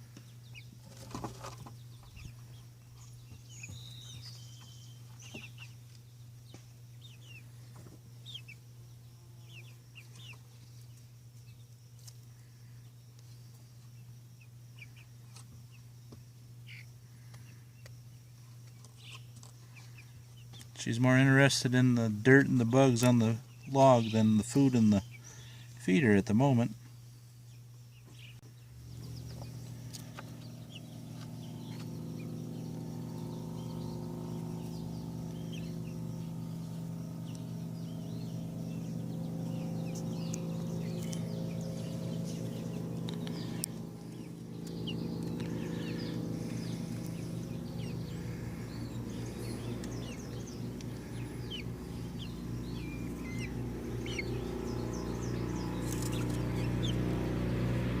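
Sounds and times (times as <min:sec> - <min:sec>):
low motor hum: 0:00.0 - 0:58.0
young chickens peeping and clucking: 0:00.0 - 0:58.0.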